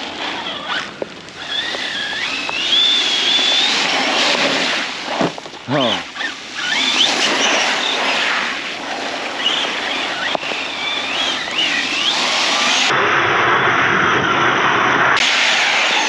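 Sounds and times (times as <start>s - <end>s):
hiss of wet ground and water: 0.0s - 12.9s, 15.2s - 16.0s
rc truck motor whining: 0.0s - 12.9s, 15.2s - 16.0s.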